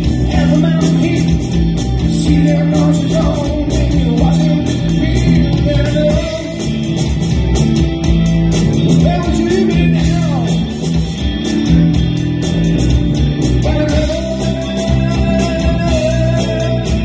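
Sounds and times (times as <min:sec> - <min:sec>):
bass guitar: 0:00.0 - 0:17.0
drums and cymbals: 0:00.0 - 0:17.0
electric guitar: 0:00.0 - 0:17.0.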